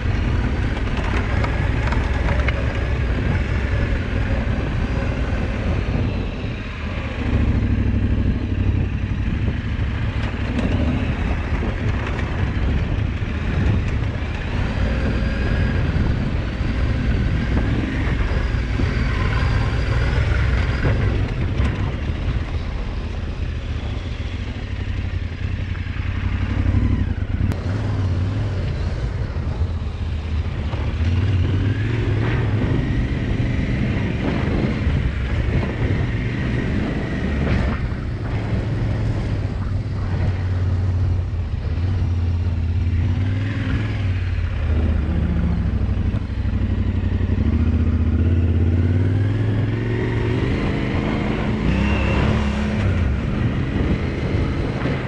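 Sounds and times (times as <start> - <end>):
off-road motorcycle engine: 0.0 - 55.0.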